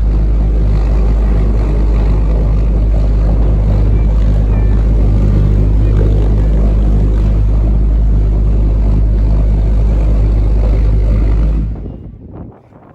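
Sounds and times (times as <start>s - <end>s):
pulse jet engine buzzing: 0.0s - 12.6s.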